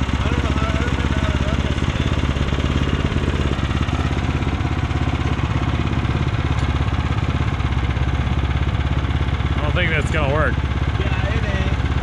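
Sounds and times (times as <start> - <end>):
sawmill engine idling: 0.0 - 12.0.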